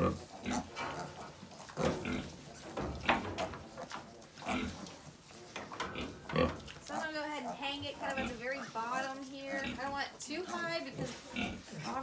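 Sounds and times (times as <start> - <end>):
pigs grunting: 0.0 - 12.0.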